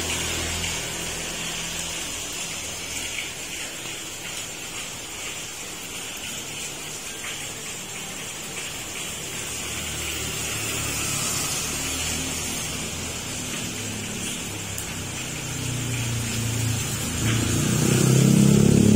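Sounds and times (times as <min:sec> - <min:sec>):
heavy rain hissing: 0:00.0 - 0:18.9.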